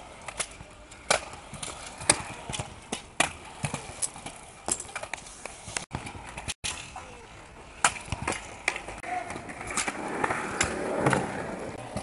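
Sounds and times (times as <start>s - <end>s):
scooter wheels rolling on concrete: 0.0s - 12.0s.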